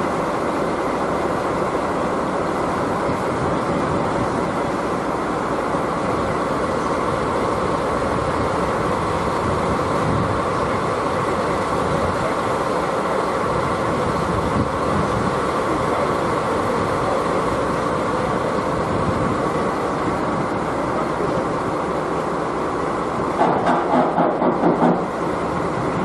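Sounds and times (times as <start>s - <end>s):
train noise: 0.0s - 26.0s.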